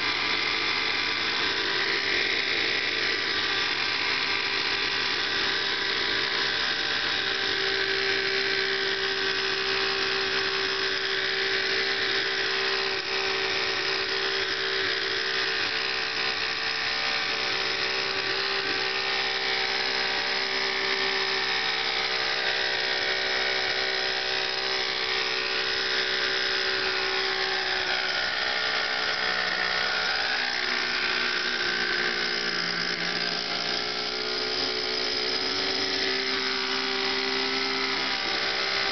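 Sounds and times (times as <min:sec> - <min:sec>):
model helicopter hovering: 0:00.0 - 0:38.9.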